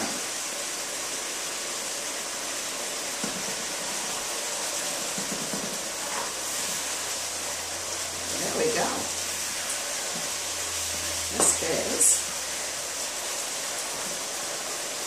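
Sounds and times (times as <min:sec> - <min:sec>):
frying pan sizzling: 0:00.0 - 0:15.0.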